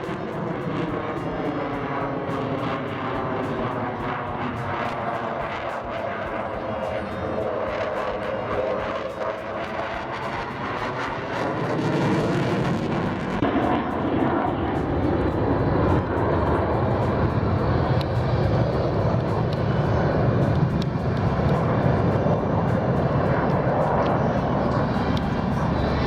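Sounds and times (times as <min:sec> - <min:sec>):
airplane engine rumble: 0:00.0 - 0:26.0.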